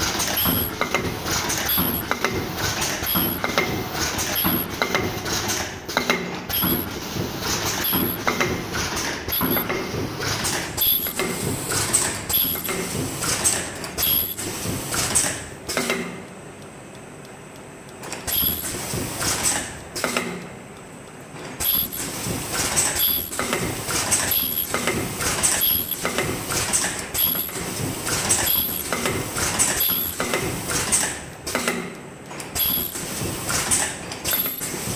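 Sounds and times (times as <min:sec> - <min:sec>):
welding machine clatter and clicks: 0:00.0 - 0:34.9.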